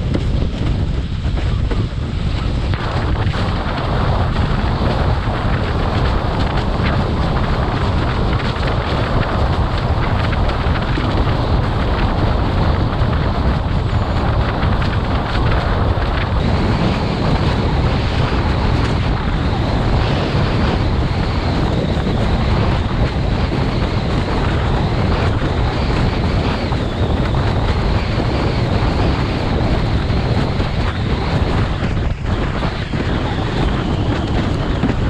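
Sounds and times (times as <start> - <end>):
water rushing under board: 0.0 - 35.0
wind buffeting microphone: 0.0 - 35.0.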